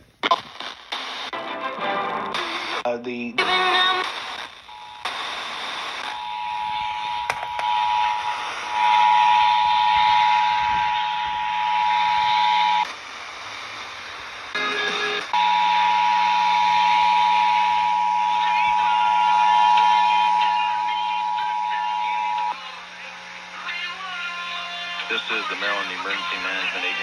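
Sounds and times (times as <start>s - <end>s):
radio hiss: 0.0s - 1.3s, 2.3s - 27.0s.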